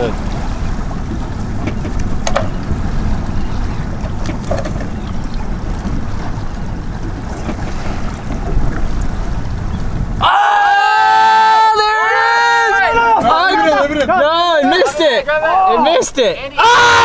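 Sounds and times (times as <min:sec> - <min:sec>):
boat motor rumble: 0:00.0 - 0:17.0
water: 0:00.0 - 0:17.0
wind: 0:00.0 - 0:17.0.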